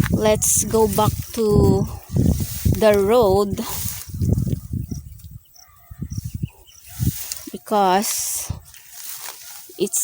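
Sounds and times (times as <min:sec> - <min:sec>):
footsteps in dry grass: 0:00.0 - 0:10.0.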